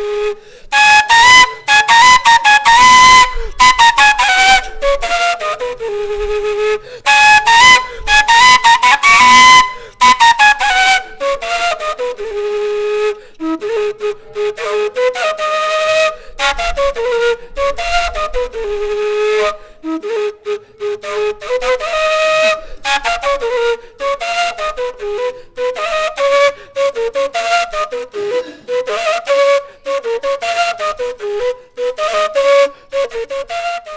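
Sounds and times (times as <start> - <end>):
cane flute melody: 0.0 - 33.9.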